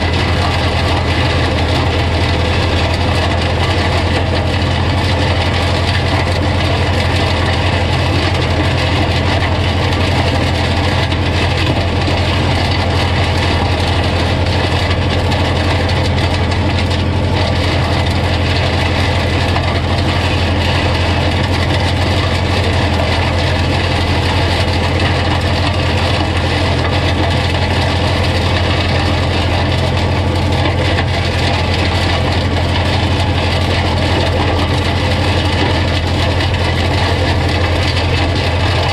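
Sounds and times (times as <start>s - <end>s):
tractor engine drone: 0.0s - 38.9s.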